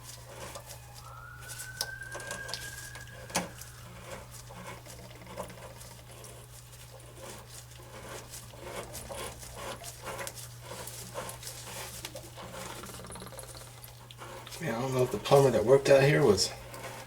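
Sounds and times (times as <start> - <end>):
hand tools and pipe fittings rattling: 0.0 - 17.0
steady low hum: 0.0 - 17.0.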